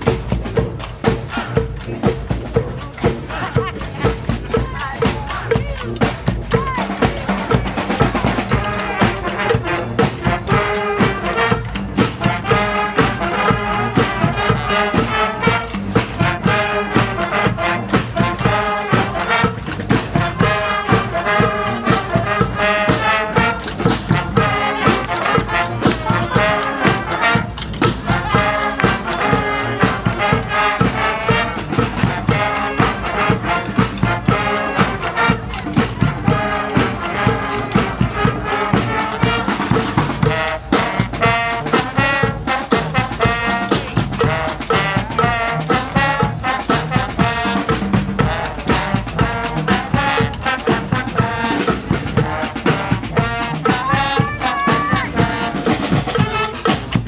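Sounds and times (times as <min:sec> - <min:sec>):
brass band playing: 0:00.0 - 0:57.0
steady drum beat: 0:00.0 - 0:57.0
trumpets and trombones: 0:00.0 - 0:57.0.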